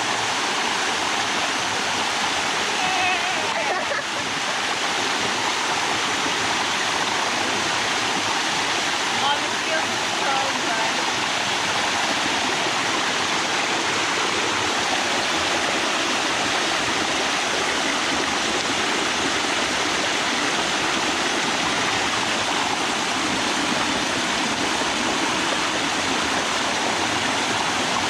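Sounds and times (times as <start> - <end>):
waterfall rushing over rock: 0.0 - 28.0.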